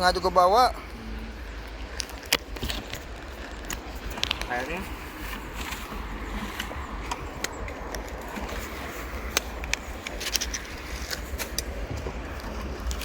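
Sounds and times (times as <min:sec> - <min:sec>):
gear clicking and scraping: 0:00.0 - 0:13.0
low outdoor rumble: 0:00.0 - 0:13.0.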